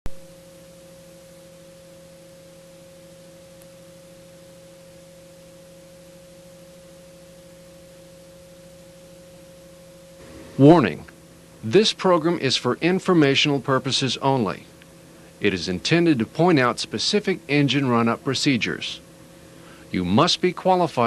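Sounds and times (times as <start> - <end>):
electrical hum: 0.1 - 21.0
constant hiss: 0.2 - 21.0.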